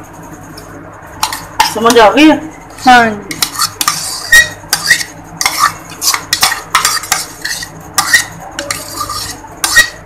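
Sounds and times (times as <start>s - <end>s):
utensil scraping frying pan: 1.2s - 10.0s.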